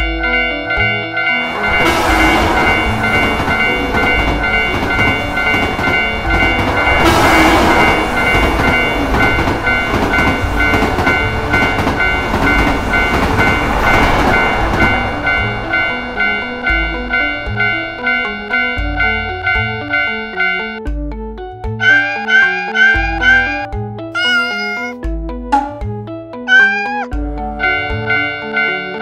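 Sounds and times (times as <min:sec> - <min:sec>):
train passing on rails: 0:00.0 - 0:20.8, 0:21.8 - 0:24.8, 0:27.6 - 0:29.0
railroad crossing alarm dinging: 0:00.0 - 0:20.9, 0:21.8 - 0:24.8, 0:26.5 - 0:29.0.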